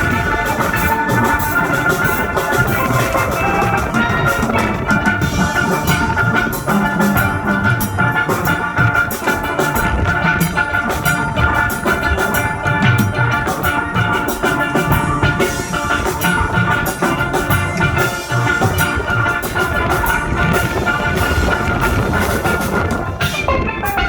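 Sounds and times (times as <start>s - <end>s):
drum kit beat: 0.0s - 24.0s
steel pans playing a melody: 0.0s - 24.0s.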